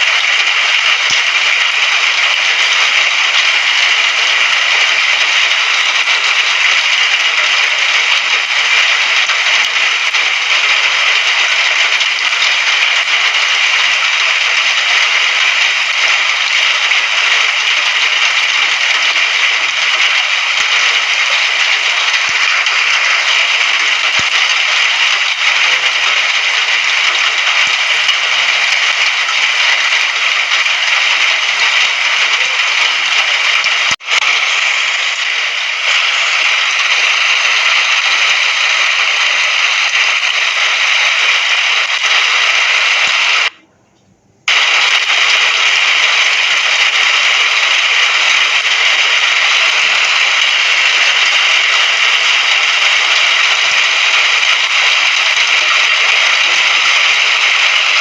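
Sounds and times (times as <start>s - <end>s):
dense hiss of rain: 0.0s - 43.6s, 44.5s - 58.0s.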